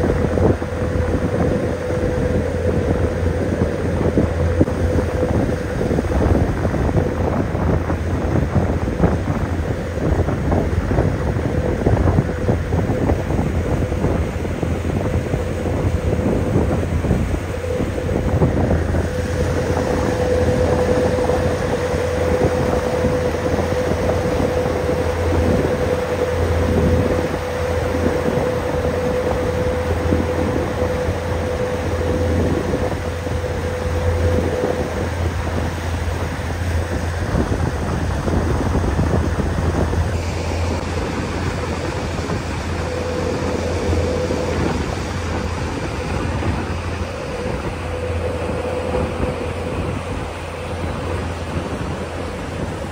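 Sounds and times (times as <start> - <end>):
boat engine rumbling: 0.0 - 52.9
water rushing: 0.0 - 52.9
wind: 0.0 - 52.9.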